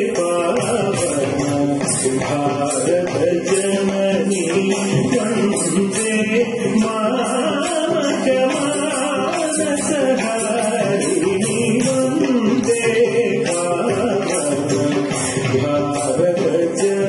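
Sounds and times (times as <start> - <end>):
instrumental accompaniment: 0.0 - 17.0
light percussion beat: 0.0 - 17.0
person singing: 0.0 - 17.0.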